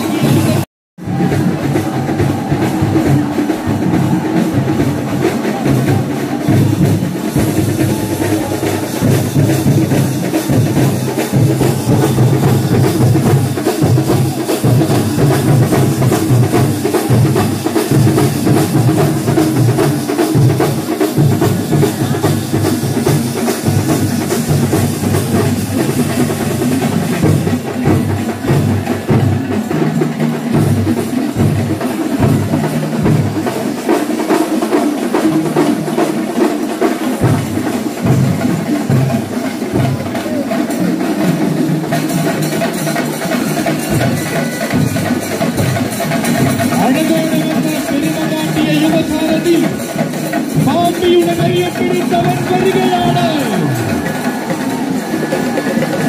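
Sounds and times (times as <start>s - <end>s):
drum ensemble playing fast: 0.0s - 56.0s.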